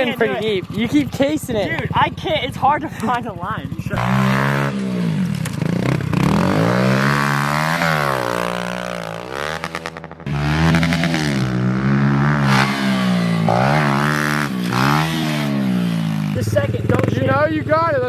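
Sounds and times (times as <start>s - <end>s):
pit bike engines revving: 0.0s - 18.0s.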